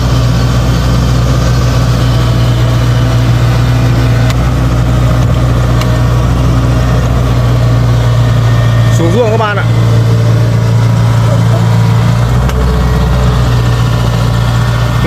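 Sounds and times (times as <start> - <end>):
combine harvester diesel engine: 0.0 - 15.0.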